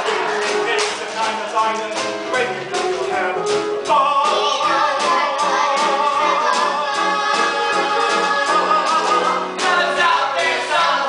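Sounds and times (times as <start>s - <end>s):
band with steady beat: 0.0s - 10.8s
singers: 0.0s - 11.0s.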